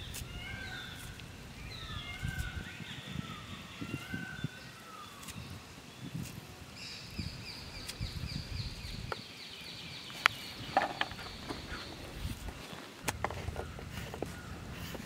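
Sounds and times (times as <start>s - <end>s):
birds whistling: 0.0s - 12.8s
high bird trill: 0.0s - 12.8s.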